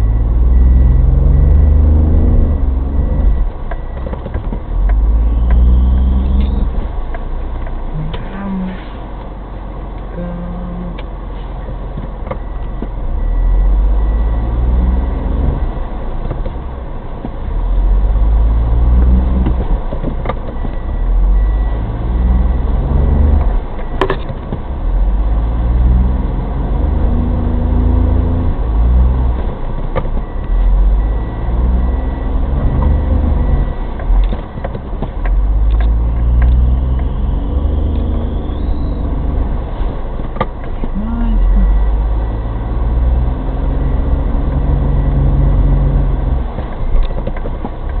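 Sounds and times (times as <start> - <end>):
car engine revving: 0.0 - 9.0, 13.0 - 48.0.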